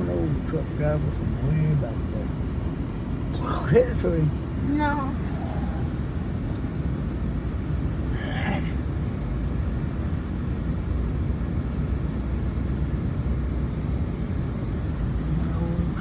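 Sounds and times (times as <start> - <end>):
truck engine rumble from cab: 0.0 - 16.0.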